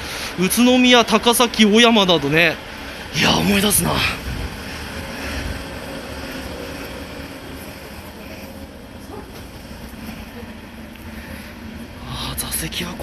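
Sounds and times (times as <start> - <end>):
stationary electric train humming: 0.0 - 13.0.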